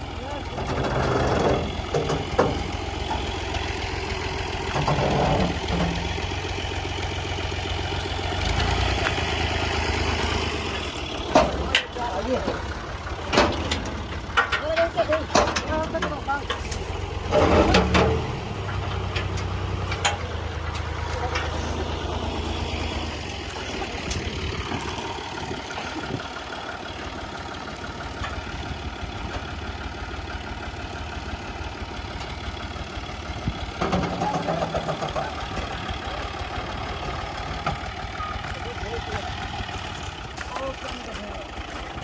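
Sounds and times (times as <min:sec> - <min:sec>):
combine harvester diesel engine: 0:00.0 - 0:42.0.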